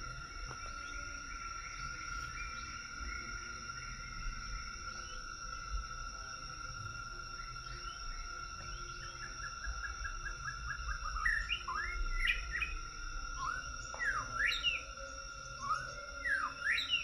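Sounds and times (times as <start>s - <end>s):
birds chirping and whistling: 0.0s - 6.0s, 7.2s - 17.0s
high-pitched insect drone: 0.0s - 17.0s.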